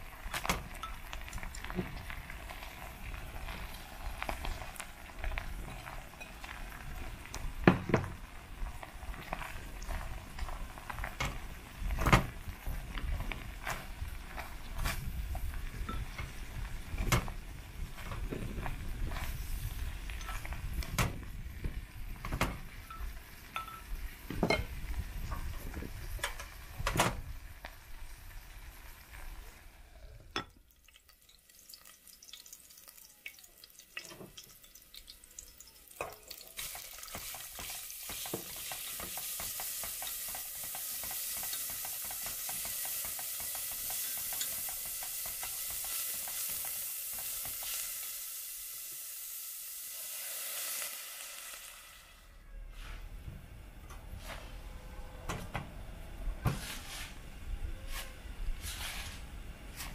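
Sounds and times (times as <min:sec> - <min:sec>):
minced meat sizzling in pot: 0:00.0 - 0:52.4.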